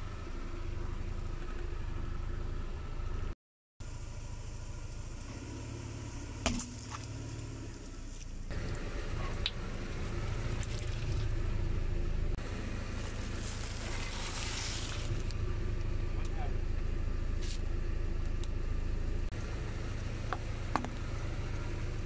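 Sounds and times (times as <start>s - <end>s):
car engine running at low speed: 0.0s - 22.0s.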